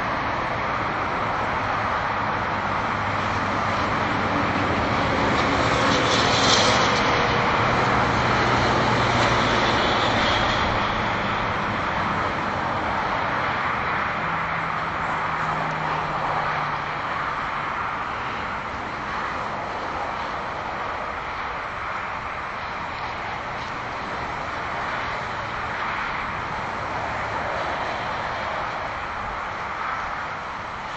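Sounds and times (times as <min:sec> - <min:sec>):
highway traffic rush: 0:00.0 - 0:30.9.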